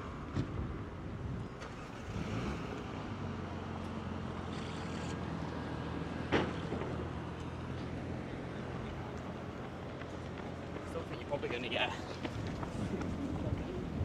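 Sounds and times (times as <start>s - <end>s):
low engine hum: 0.0s - 14.0s
outdoor noise: 0.0s - 14.0s.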